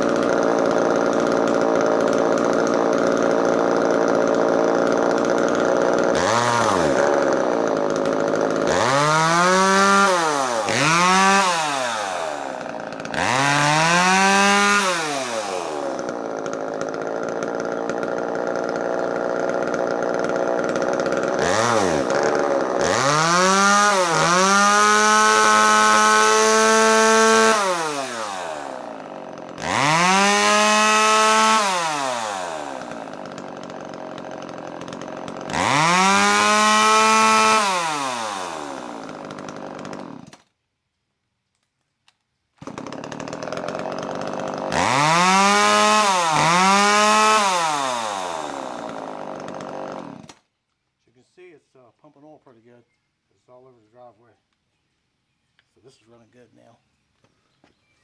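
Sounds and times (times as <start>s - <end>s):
chainsaw engine revving: 0.0s - 40.4s, 42.6s - 50.5s.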